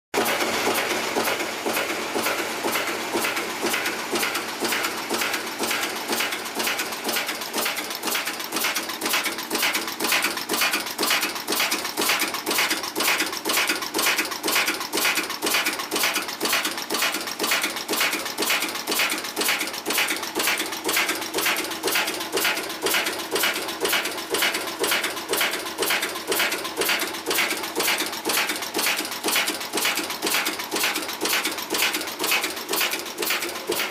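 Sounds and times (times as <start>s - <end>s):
screw machine rapid clatter: 0.2s - 33.9s.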